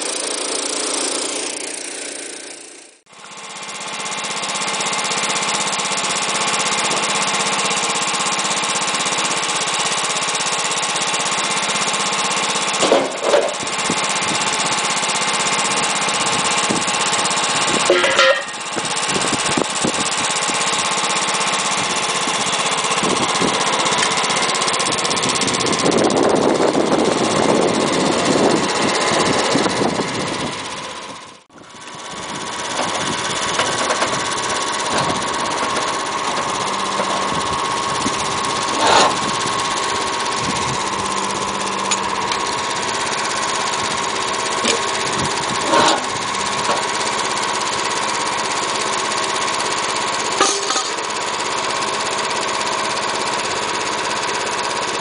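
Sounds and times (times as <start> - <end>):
sawmill engine and saw running: 0.0 - 55.0.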